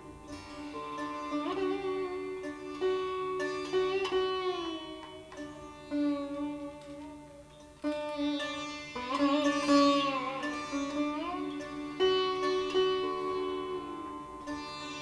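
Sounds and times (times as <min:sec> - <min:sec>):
solo sitar plucked notes: 0:00.0 - 0:15.0.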